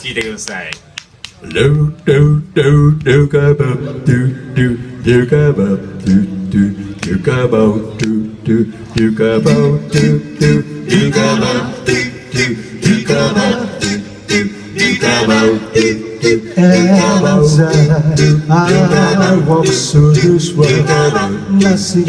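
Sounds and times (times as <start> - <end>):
man singing: 1.4 - 22.0.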